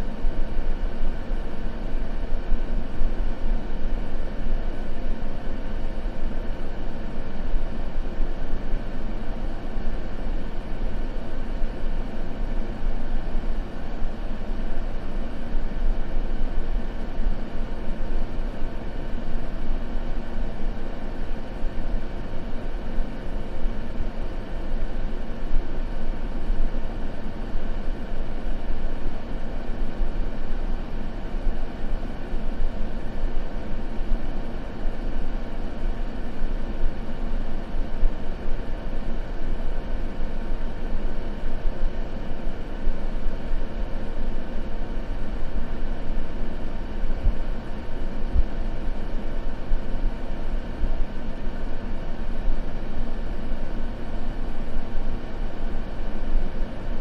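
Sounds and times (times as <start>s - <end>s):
rumbling white noise: 0.0s - 57.0s.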